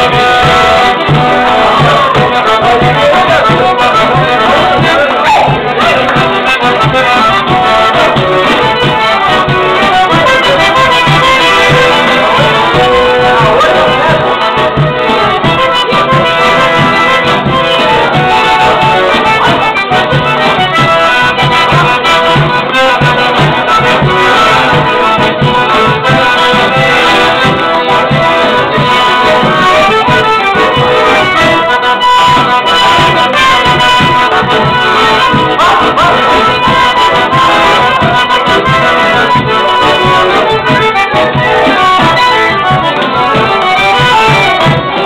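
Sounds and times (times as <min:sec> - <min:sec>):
accordion playing: 0:00.0 - 0:45.0.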